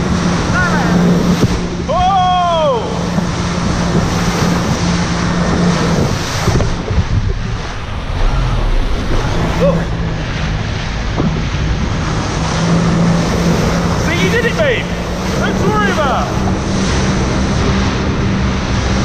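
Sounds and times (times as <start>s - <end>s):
jet ski engine drone: 0.0s - 19.0s
water spray rushing: 0.0s - 19.0s
wind buffeting microphone: 0.0s - 19.0s.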